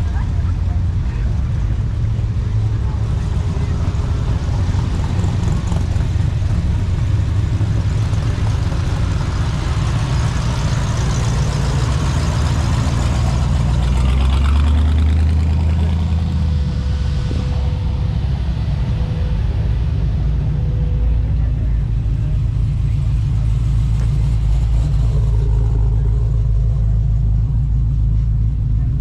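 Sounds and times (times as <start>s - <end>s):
car engines in slow traffic: 0.0s - 29.0s
deeper engine sound: 0.0s - 29.0s.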